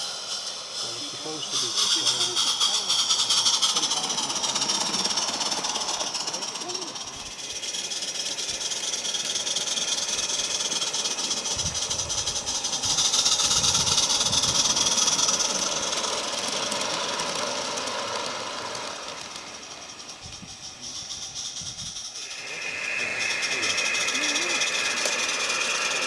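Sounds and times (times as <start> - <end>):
small steam locomotive chuffing: 0.0 - 26.0
steady steam hiss: 0.0 - 26.0.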